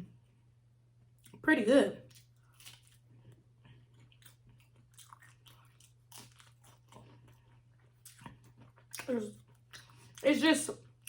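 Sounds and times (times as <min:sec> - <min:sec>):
low electrical hum: 0:00.0 - 0:11.0
chewing crunchy food: 0:02.0 - 0:11.0.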